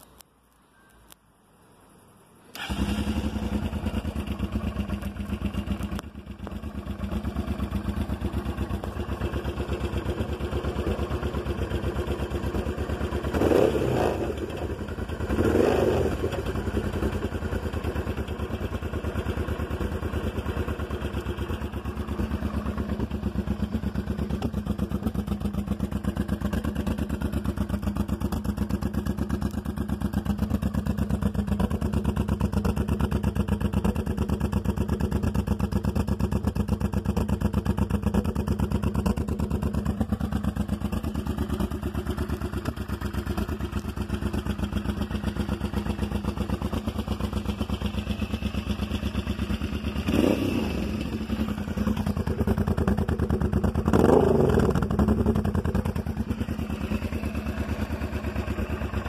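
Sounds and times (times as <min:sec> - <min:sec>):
motorcycle engine idling: 0:02.5 - 0:59.0.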